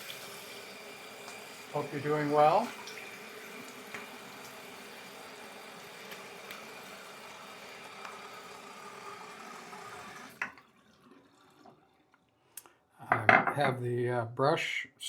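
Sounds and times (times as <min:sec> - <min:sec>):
water running from a tap: 0:00.0 - 0:12.1.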